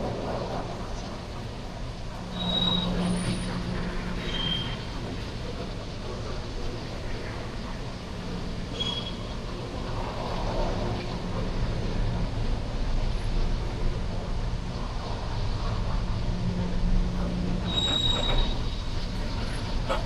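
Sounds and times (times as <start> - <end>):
locomotive engine drone: 0.0 - 20.0
train rolling rumble: 0.0 - 20.0.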